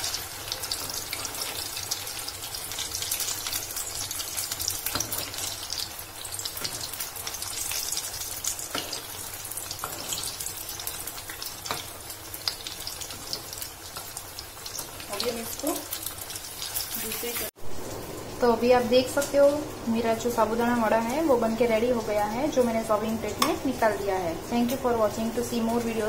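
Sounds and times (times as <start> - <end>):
food deep-frying in oil: 0.0 - 26.0.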